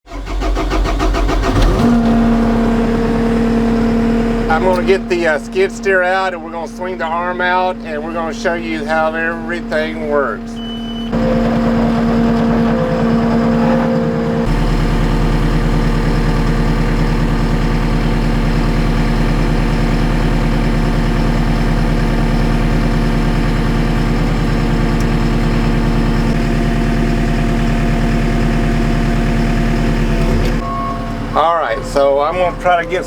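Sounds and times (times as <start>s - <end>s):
diesel engine running: 0.1s - 33.0s.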